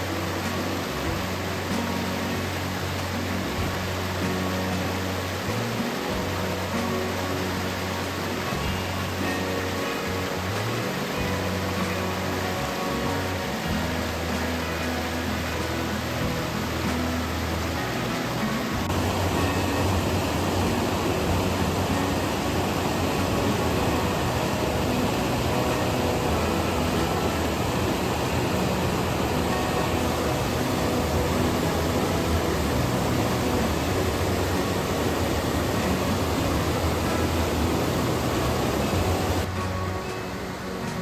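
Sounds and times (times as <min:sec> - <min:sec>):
rushing mountain stream: 0:00.0 - 0:41.0.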